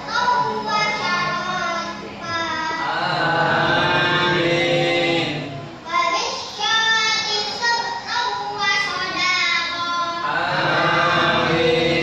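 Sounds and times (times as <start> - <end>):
boy chanting recitation: 0.0 - 12.0.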